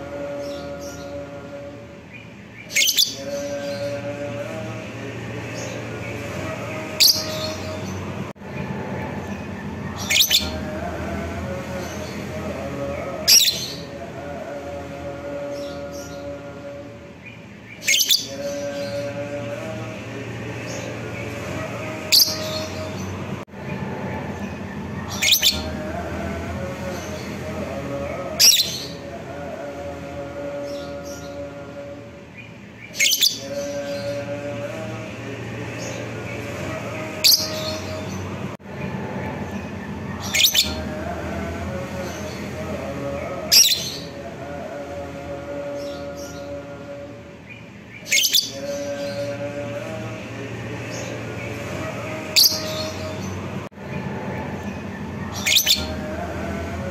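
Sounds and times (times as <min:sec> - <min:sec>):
steady humming background: 0:00.0 - 0:56.9.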